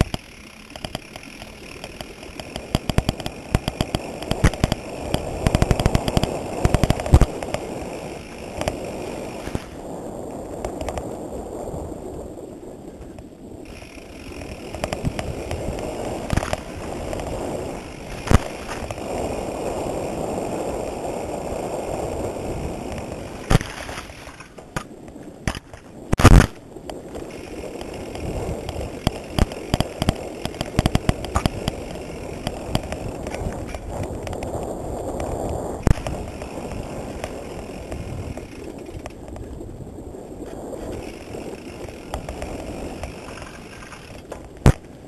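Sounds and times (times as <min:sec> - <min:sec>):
bike rattling over bumps: 0:00.0 - 0:45.0
bike tyres rolling on dirt: 0:00.0 - 0:45.0.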